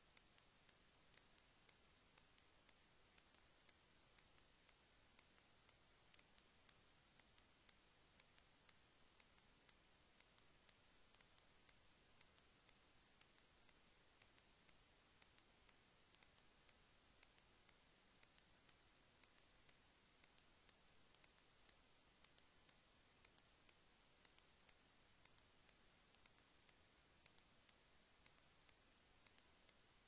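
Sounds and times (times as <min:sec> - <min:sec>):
faint hiss: 0:00.0 - 0:30.0
tiny irregular clicks: 0:00.0 - 0:30.0.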